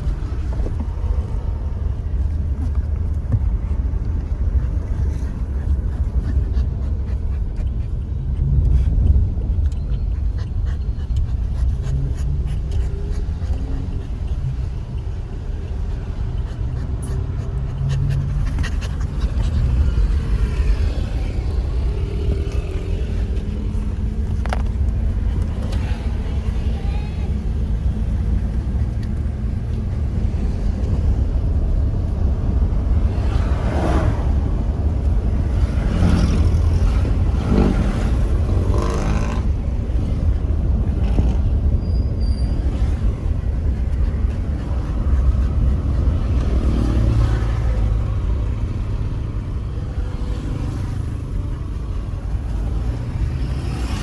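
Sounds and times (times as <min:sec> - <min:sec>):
low rumble: 0:00.0 - 0:50.3.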